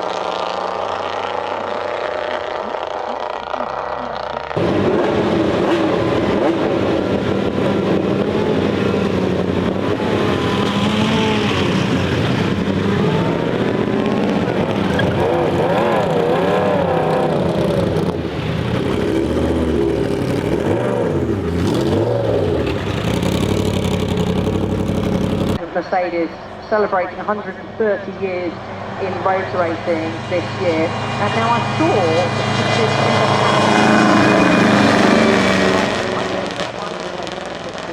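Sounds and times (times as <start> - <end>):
racing car engine revving: 0.0 - 25.6, 26.7 - 37.9.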